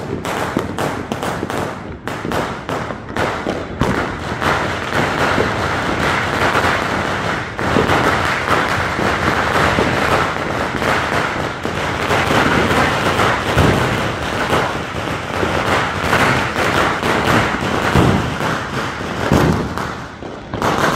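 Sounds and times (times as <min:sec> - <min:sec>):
fireworks crackling and popping: 0:00.0 - 0:20.9
heavy fireworks booms: 0:00.0 - 0:20.9.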